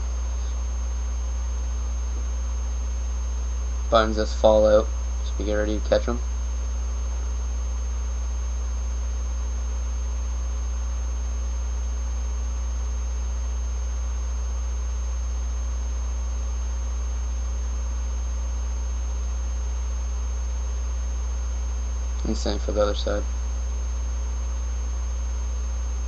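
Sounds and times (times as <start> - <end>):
faint high whine: 0.0 - 26.0
low electrical hum: 0.0 - 26.0.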